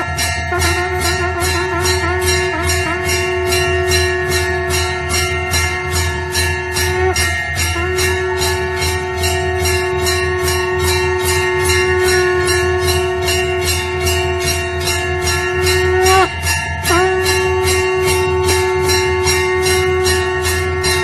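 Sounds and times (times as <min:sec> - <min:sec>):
temple bells ringing: 0:00.0 - 0:21.0.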